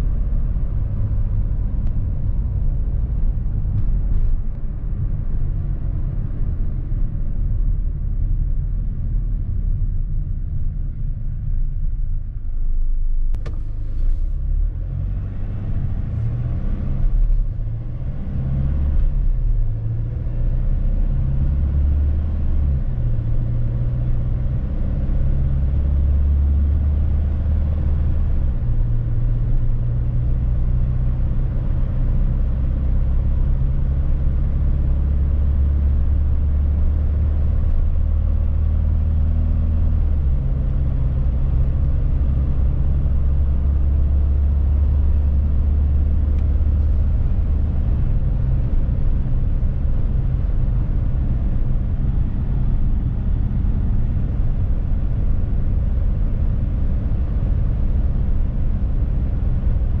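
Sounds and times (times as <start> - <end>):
van engine and road rumble: 0.0 - 60.0.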